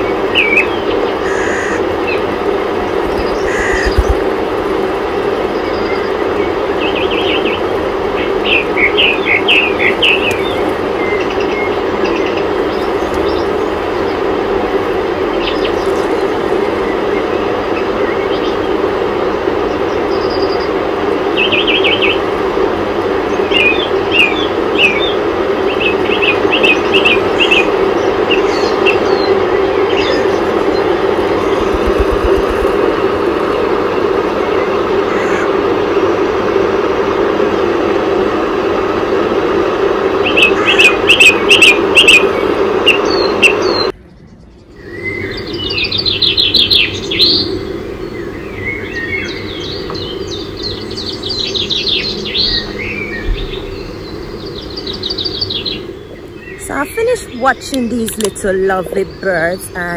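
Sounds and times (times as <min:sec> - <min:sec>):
small birds chirping: 0:00.0 - 0:35.5, 0:40.2 - 0:59.9
steady rumbling background noise: 0:00.0 - 0:59.9.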